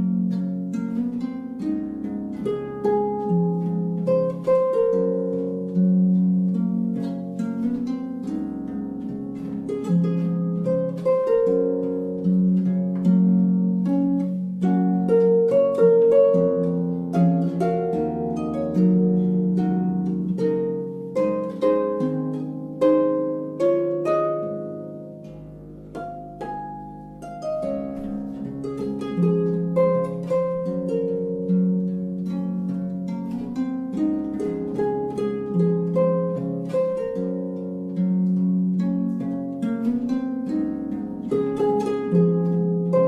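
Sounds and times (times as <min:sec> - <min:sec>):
plucked string music: 0:00.0 - 0:43.0.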